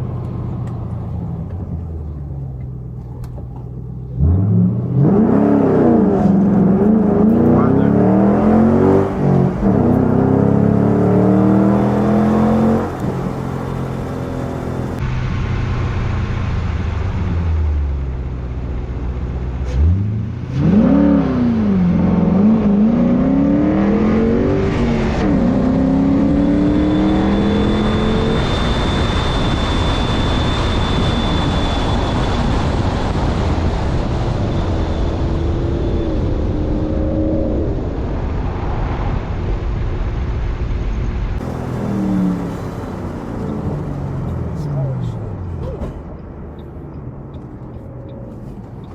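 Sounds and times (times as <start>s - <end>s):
car engine accelerating hard: 0.0s - 48.9s
exhaust and road noise: 0.0s - 48.9s.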